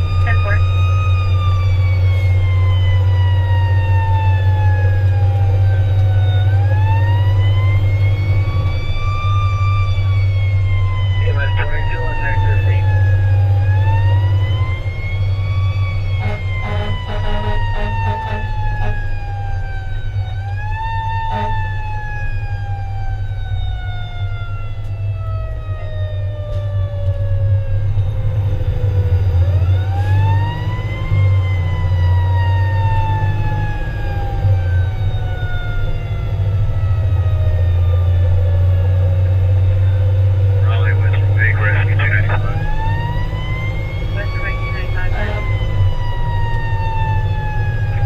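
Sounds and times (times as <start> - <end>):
fire engine siren wailing: 0.0 - 48.0
truck engine drone: 0.0 - 48.0.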